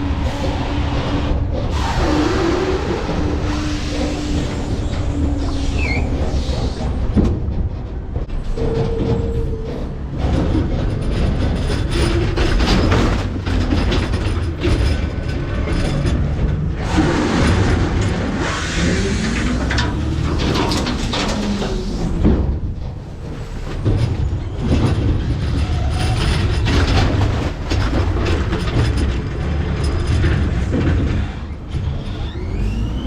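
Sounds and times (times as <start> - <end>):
metal squeals and groans: 0.0 - 33.0
hydraulic packer compacting trash: 0.1 - 33.0.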